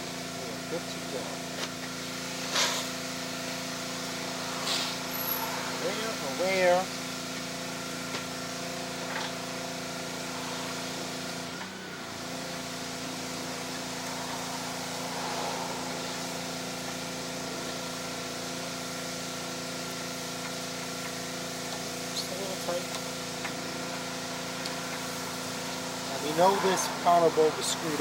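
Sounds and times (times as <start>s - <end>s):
machine humming: 1.9s - 28.0s.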